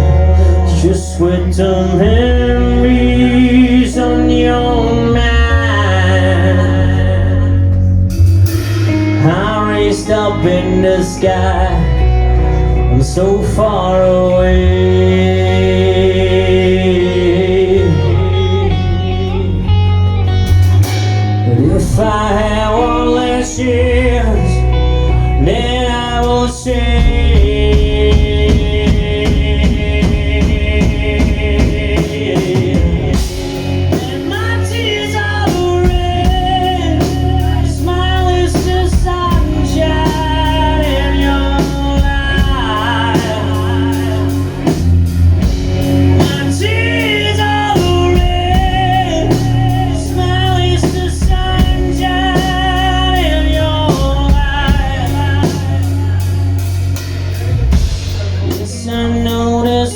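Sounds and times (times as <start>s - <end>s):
bending lead guitar melody: 0.0s - 59.9s
rock band playing slow song: 0.0s - 59.9s.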